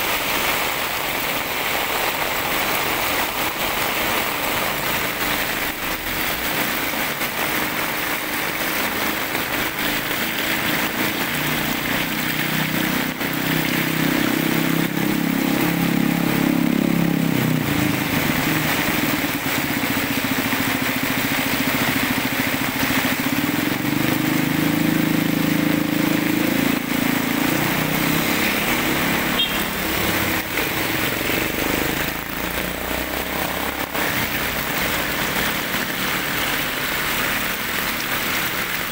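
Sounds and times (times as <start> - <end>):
heavy rain on pavement: 0.0 - 38.9
water running along curb: 0.0 - 38.9.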